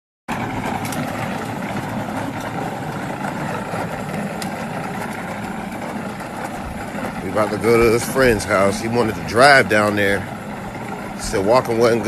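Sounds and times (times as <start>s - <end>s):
vehicle engine idling: 0.3s - 12.0s.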